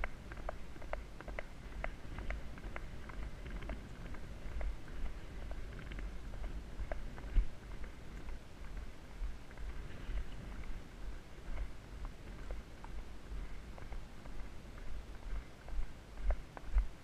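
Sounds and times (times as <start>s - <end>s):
horse hooves on firm sand: 0.0s - 17.0s
wind rumble on microphone: 0.0s - 17.0s.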